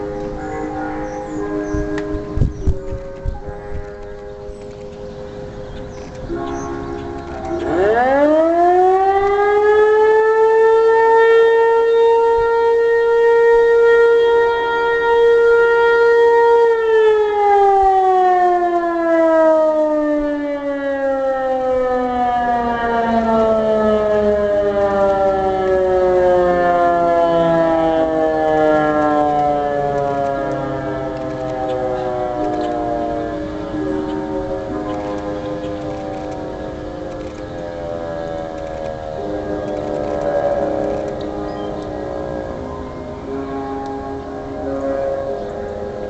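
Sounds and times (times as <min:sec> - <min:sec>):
tornado warning siren: 0:00.0 - 0:46.0.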